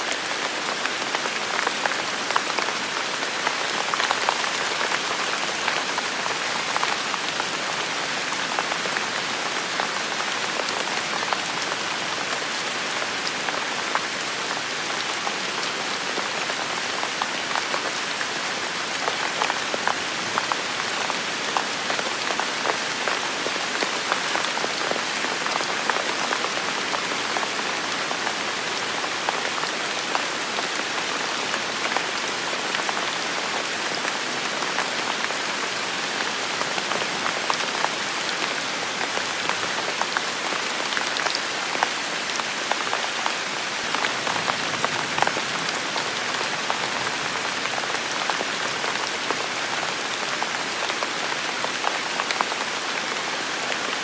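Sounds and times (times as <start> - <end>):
heavy rain pattering: 0.0 - 54.0.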